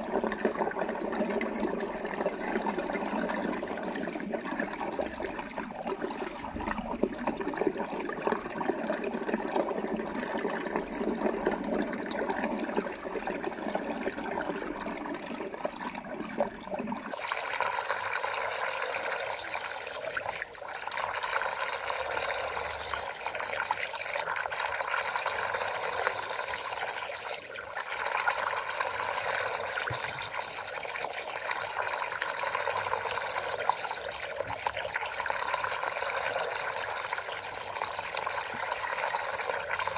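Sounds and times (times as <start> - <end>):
water rushing down drain: 0.0 - 39.9.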